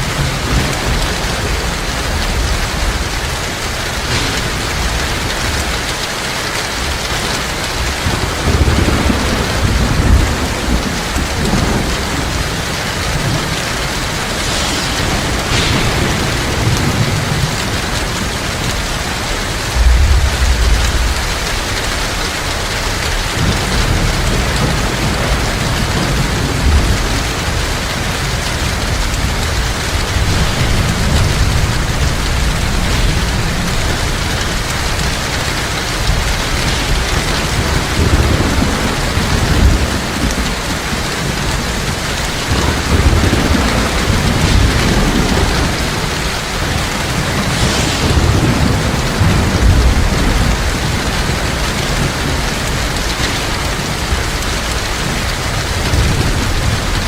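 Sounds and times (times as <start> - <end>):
heavy rain falling: 0.0 - 57.0
thunder rumbling: 0.0 - 57.0.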